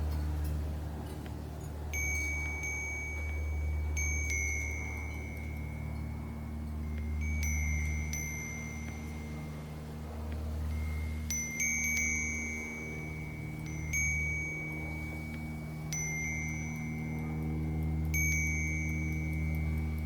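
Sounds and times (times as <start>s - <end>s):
steady low hum: 0.0s - 20.0s
wind chime ringing: 0.0s - 20.0s.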